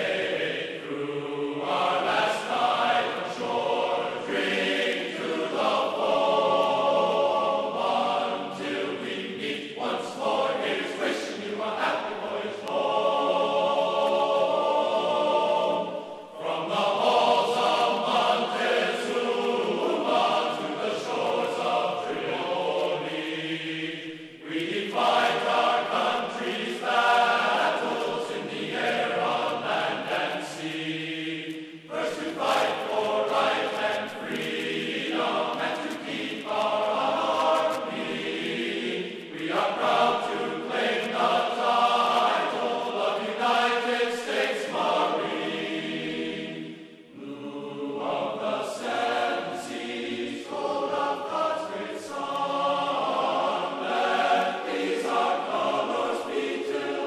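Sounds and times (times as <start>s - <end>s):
chanting voices: 0.0s - 57.0s.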